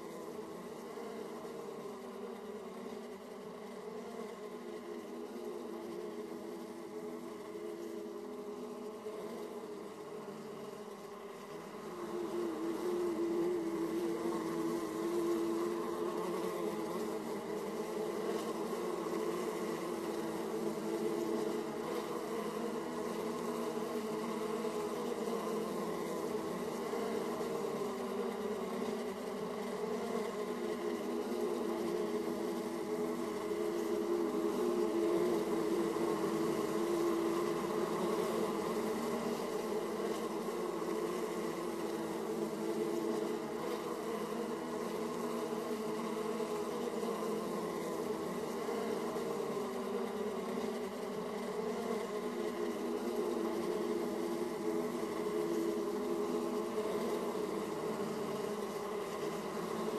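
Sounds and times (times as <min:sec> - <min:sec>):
honeybees buzzing: 0:00.0 - 0:59.9.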